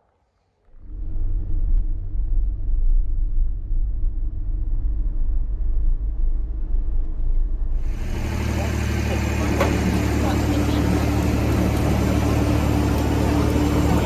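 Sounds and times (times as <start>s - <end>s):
vehicle engine and road rumble: 0.7s - 14.0s.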